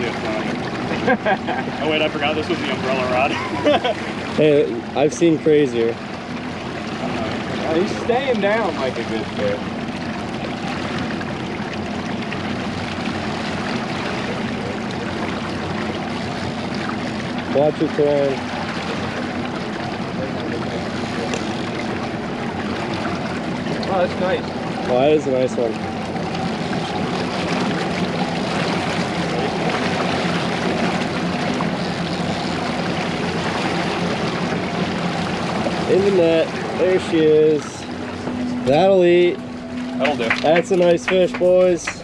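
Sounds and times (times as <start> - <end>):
boat engine running: 0.0 - 42.0
water noise: 0.0 - 42.0.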